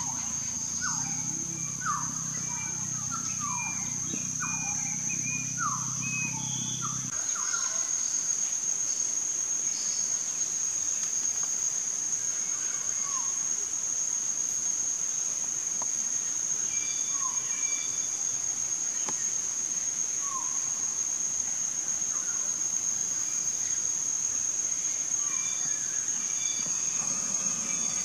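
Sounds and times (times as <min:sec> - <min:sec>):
high-pitched insect drone: 0:00.0 - 0:15.7, 0:16.5 - 0:28.0.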